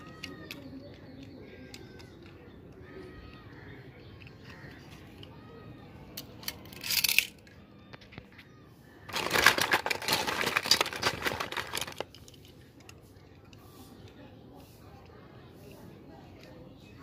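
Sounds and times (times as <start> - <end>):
plastic toy cars clattering: 0.0 - 15.2.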